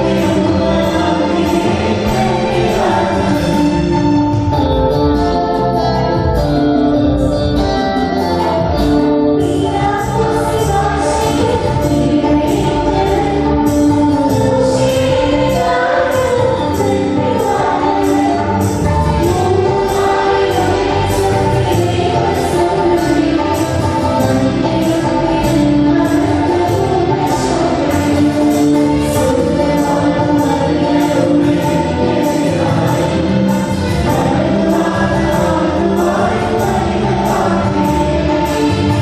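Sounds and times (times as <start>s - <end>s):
voices singing a hymn: 0.0s - 4.6s, 9.4s - 39.0s
hand drum: 0.0s - 39.0s
keyboard: 0.0s - 39.0s.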